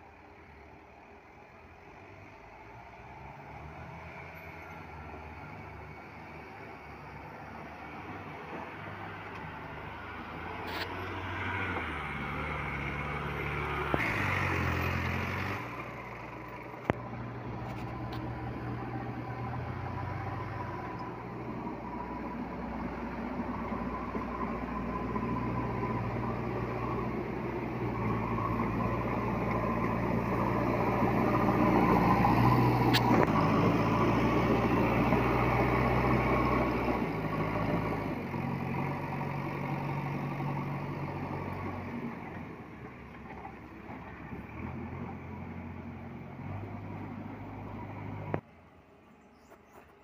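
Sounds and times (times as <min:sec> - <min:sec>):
diesel engine running: 0:02.4 - 0:48.4.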